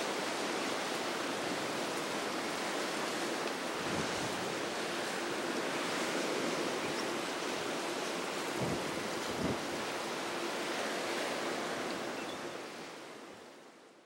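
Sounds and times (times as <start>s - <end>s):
wind and choppy water: 0.0s - 14.0s.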